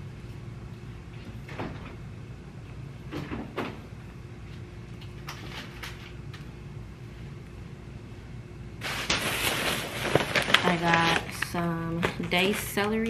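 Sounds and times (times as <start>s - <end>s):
refrigerator low hum: 0.0s - 13.0s.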